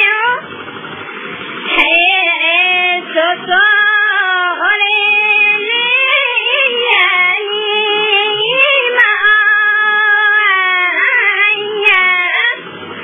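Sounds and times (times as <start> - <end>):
high-pitched voice singing: 0.0 - 0.4, 1.7 - 12.6.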